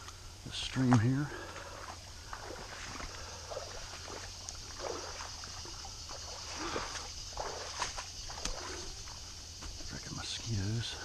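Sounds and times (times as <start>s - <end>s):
legs wading through water: 0.0s - 11.0s.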